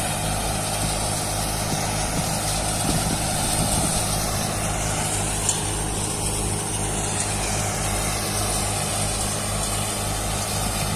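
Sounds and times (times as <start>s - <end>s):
thresher mechanical whir: 0.0s - 10.9s
tractor diesel engine running: 0.0s - 10.9s.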